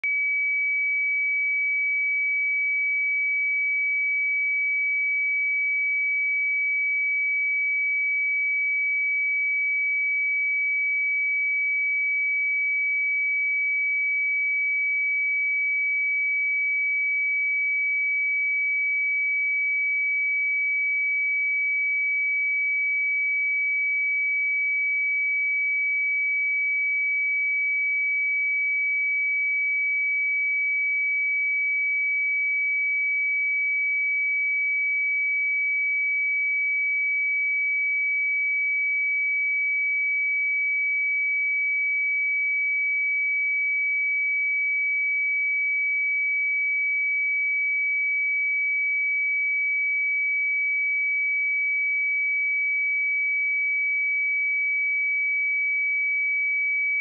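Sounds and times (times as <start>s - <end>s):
sine-wave test tone: 0.0s - 57.0s.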